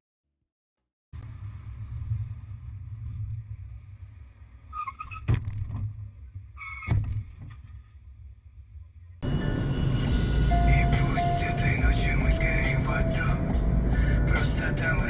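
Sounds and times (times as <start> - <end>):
engine and road rumble: 1.2 - 15.0.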